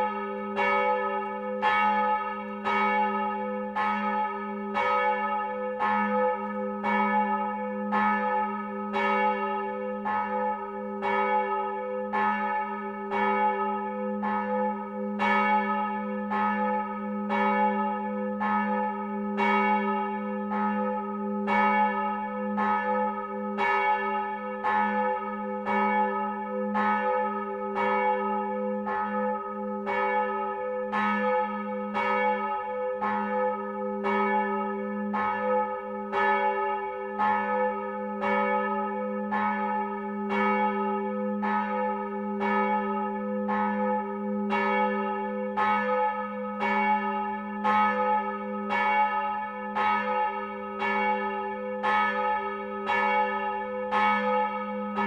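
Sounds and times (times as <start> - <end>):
large church bell ringing: 0.0 - 55.0.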